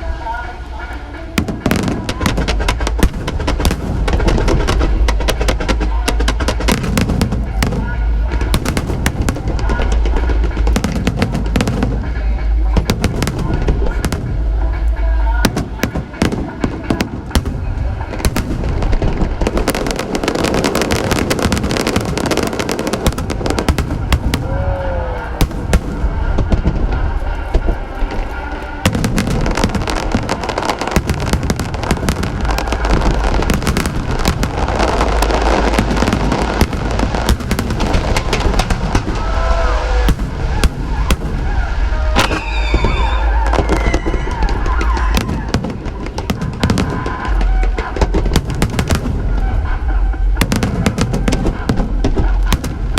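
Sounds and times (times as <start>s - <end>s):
fireworks bangs and crackling: 0.0s - 52.9s
music playing: 0.0s - 52.9s
deep booming shells: 1.4s - 52.9s.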